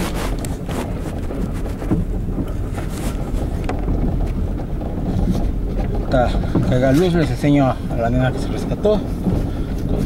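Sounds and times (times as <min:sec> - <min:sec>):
engine and tyres rumbling: 0:00.0 - 0:10.0
suspension knocks: 0:00.4 - 0:10.0.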